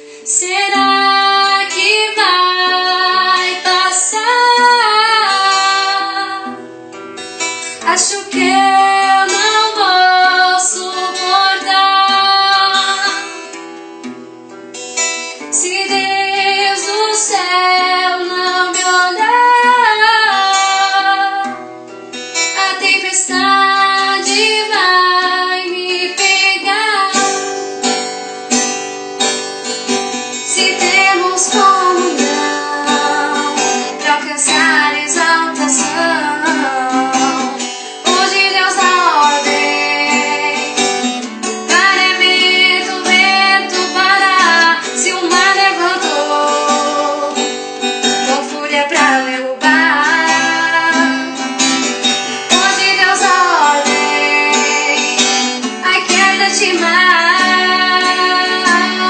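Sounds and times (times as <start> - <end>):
woman singing a hymn: 0.0 - 6.6, 7.8 - 13.4, 15.5 - 21.6, 22.5 - 27.5, 30.4 - 47.6, 48.2 - 51.7, 52.3 - 59.0.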